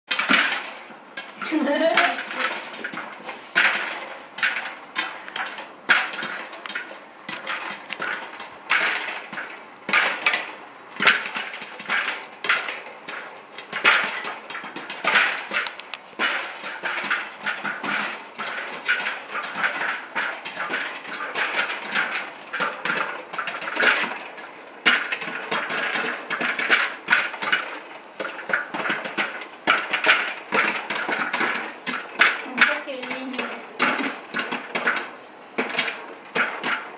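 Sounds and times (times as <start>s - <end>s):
popcorn popping: 0.1s - 36.9s.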